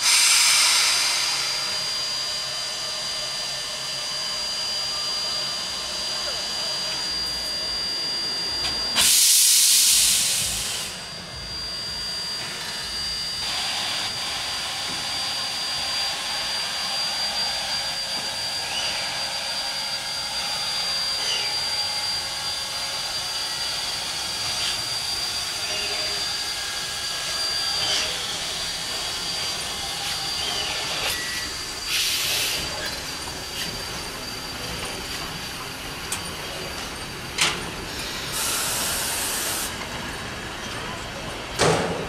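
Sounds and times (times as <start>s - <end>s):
steam locomotive hissing steam: 0.0s - 42.0s.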